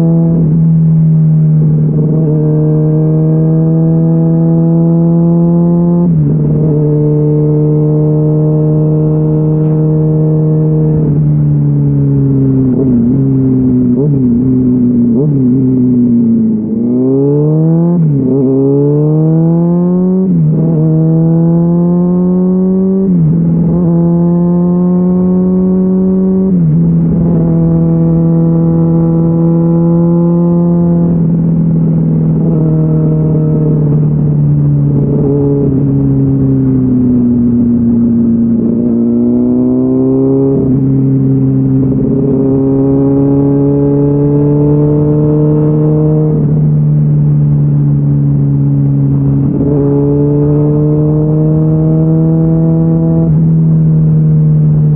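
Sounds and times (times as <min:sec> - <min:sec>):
motorcycle engine revving through upshifts: 0:00.0 - 0:54.9.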